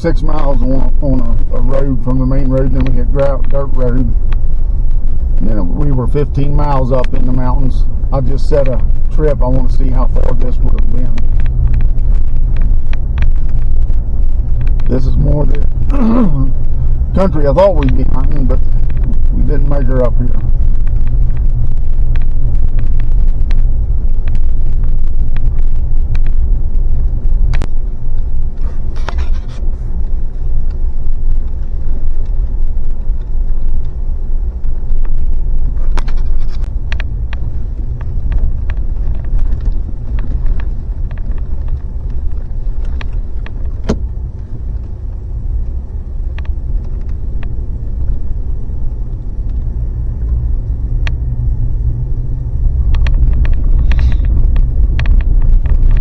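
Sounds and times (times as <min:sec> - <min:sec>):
engine and road noise: 0:00.0 - 0:56.0
clicks and knocks from rough road: 0:00.2 - 0:56.0.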